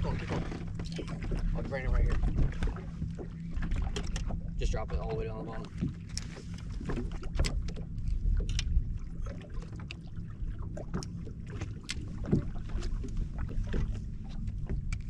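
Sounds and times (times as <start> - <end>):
water slapping against boat hull: 0.0 - 15.0
wind rumble on microphone: 0.0 - 15.0.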